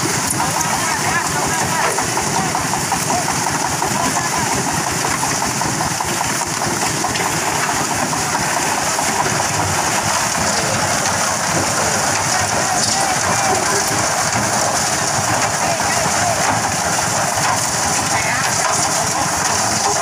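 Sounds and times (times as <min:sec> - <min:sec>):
concrete mixer engine running: 0:00.0 - 0:20.0
wet concrete churning in drum: 0:00.0 - 0:20.0.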